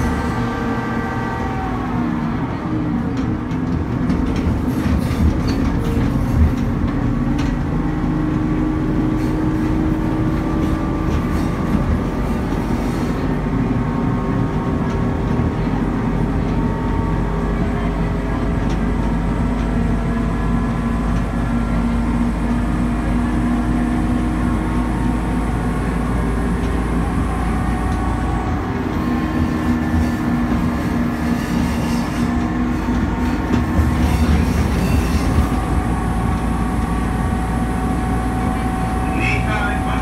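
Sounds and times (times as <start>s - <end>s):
diesel engine drone: 0.0s - 40.0s
wheel and rail noise: 0.0s - 40.0s.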